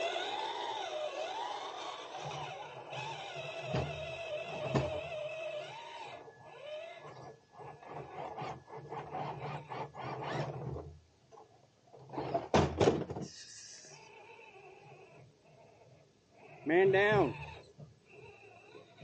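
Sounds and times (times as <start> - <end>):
electric motor whine: 0.0 - 10.9, 13.4 - 19.0.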